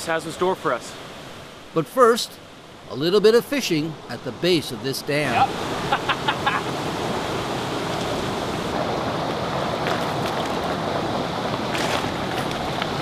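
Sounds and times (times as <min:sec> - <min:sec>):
water rushing below a dam: 0:00.0 - 0:13.0.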